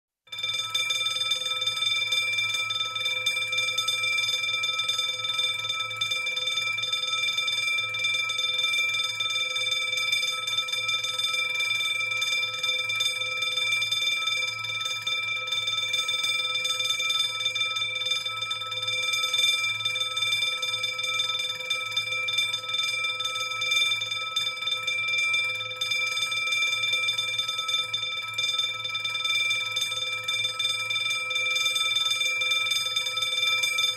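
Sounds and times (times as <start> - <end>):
burglar alarm bell ringing: 0.3 - 33.9.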